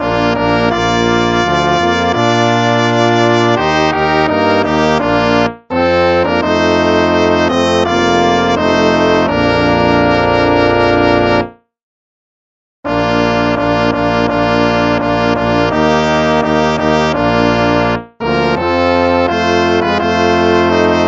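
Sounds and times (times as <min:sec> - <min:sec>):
instrumental hymn music: 0:00.0 - 0:11.6, 0:12.9 - 0:21.0.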